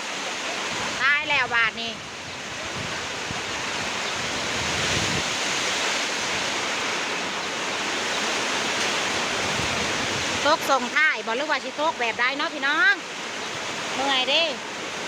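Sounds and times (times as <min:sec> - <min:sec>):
heavy rain pouring: 0:00.0 - 0:15.0
wind: 0:00.0 - 0:15.0.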